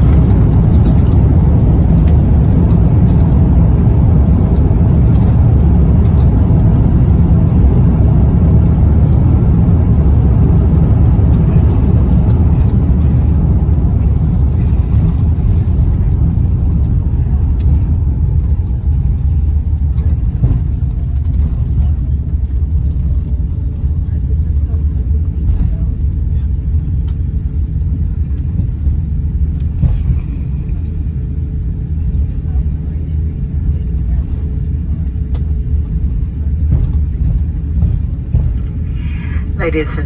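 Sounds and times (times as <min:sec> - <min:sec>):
airplane cabin rumble: 0:00.0 - 0:40.0.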